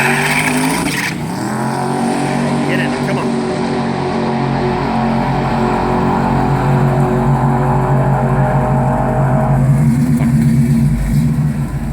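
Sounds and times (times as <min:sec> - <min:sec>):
car engine running steadily: 0:00.0 - 0:11.9.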